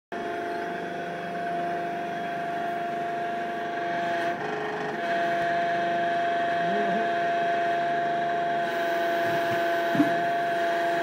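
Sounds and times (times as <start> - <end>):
hydraulic crane machine drone: 0.1 - 11.0.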